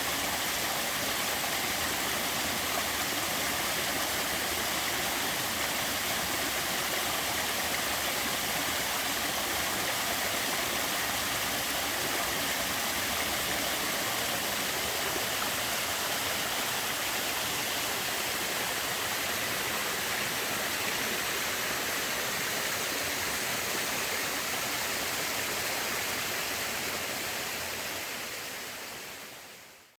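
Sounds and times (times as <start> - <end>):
small waterfall splashing: 0.0 - 29.4.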